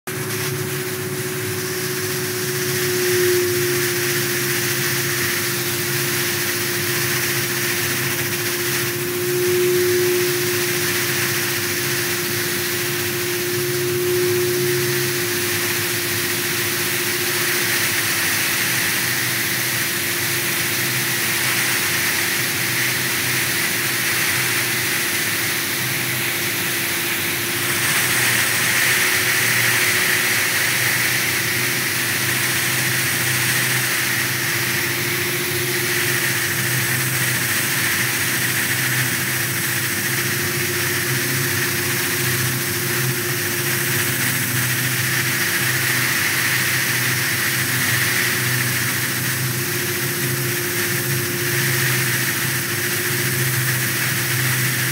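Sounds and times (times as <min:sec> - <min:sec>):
electric polisher motor hum: 0:00.1 - 0:54.9
polishing pad hissing on surface: 0:00.1 - 0:54.9.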